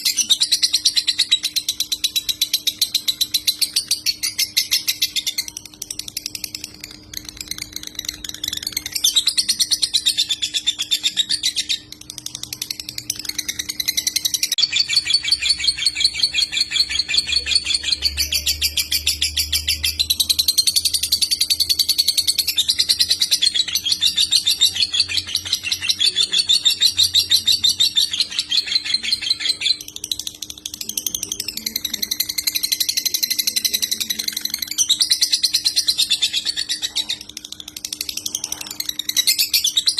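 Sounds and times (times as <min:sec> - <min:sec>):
faint steady hum: 0:00.0 - 0:39.9
lovebird chattering trills: 0:00.0 - 0:39.9.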